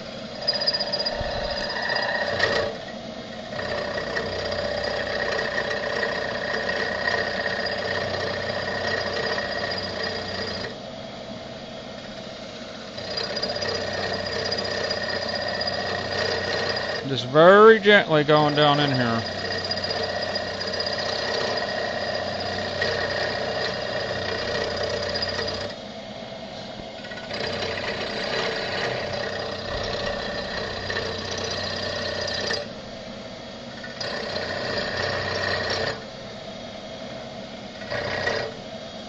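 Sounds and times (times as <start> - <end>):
milling machine cutting metal: 0.0 - 10.8, 12.0 - 25.8, 27.0 - 32.8, 33.7 - 36.1, 37.7 - 39.0.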